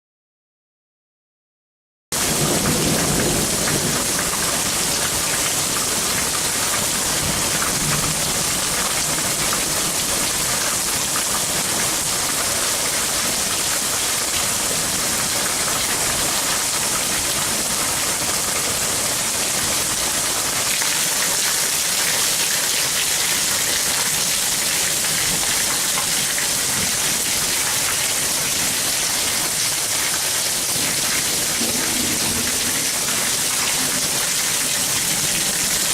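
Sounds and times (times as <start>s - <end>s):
heavy rain falling: 2.2s - 35.9s.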